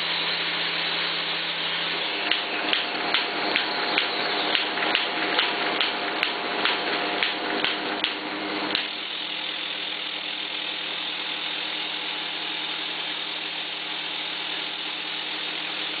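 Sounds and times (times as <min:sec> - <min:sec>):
paper perforating machine whirring: 0:00.0 - 0:16.0.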